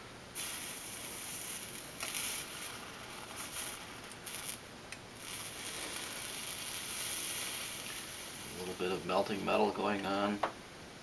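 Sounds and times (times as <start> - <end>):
flux sizzling under soldering iron: 0.4 - 10.1.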